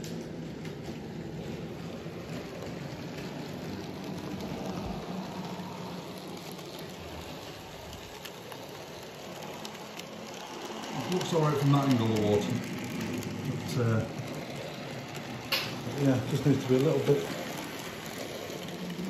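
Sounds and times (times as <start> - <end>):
model train whirring on track: 0.0 - 19.0.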